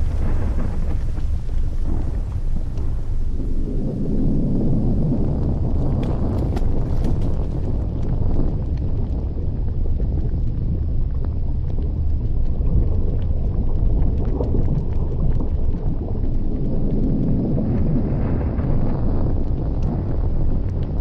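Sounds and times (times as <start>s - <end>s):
faint crackles: 0.0s - 21.0s
volcanic vent rumbling roar: 0.0s - 21.0s.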